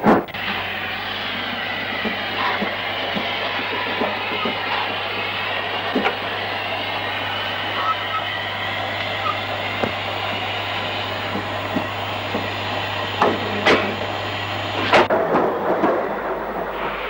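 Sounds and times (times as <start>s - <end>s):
constant low hum: 0.0s - 17.0s
steam locomotive rumble: 0.0s - 17.0s.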